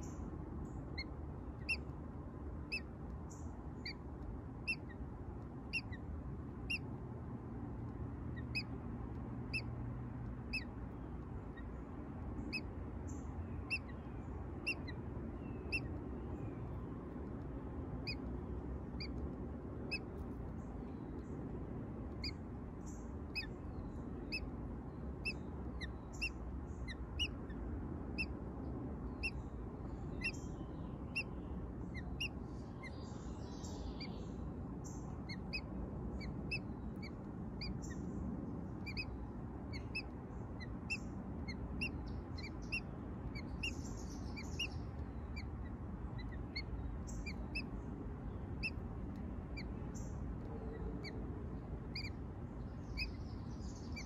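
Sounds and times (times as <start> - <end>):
bird chicks peeping: 0.0 - 2.0, 2.6 - 6.9, 8.2 - 8.8, 9.4 - 11.7, 12.4 - 21.4, 22.1 - 28.4, 29.0 - 38.1, 38.7 - 54.0
low outdoor rumble: 0.0 - 54.0.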